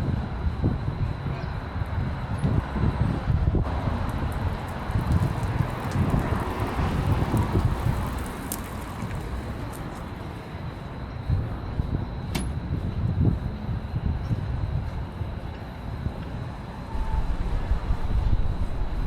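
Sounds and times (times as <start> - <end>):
rumble of passing cars: 0.0 - 19.0.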